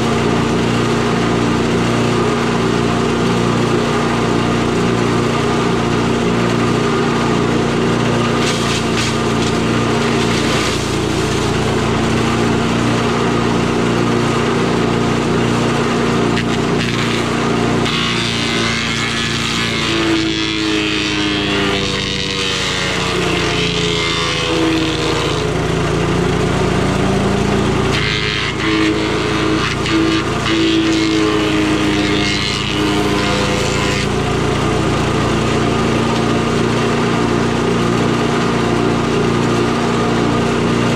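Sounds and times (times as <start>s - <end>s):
chipper shredder engine running: 0.0s - 40.9s
shredder grinding wood: 0.0s - 40.9s.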